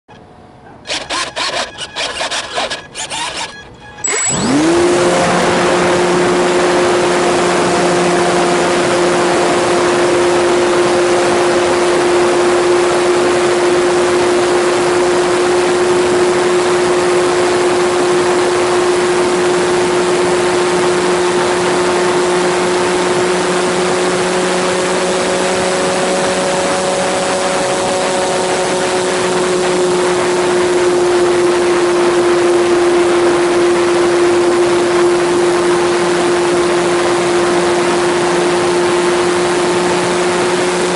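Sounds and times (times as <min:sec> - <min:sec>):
electric motor and propeller hum: 0:00.1 - 0:40.9.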